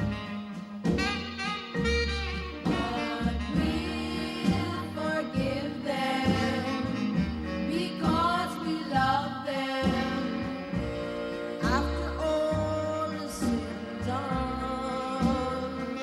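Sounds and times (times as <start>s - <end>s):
song with melody over bass: 0.0s - 16.0s.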